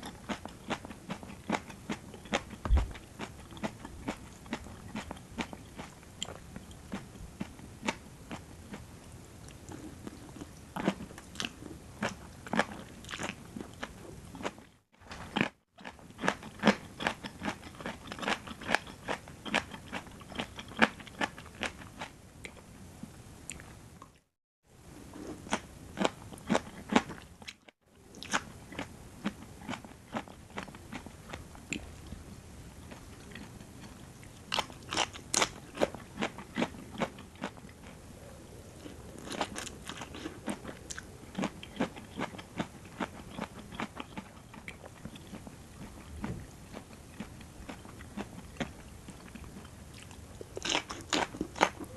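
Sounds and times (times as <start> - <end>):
chewing crunchy salad: 0.0 - 22.7, 25.1 - 51.9.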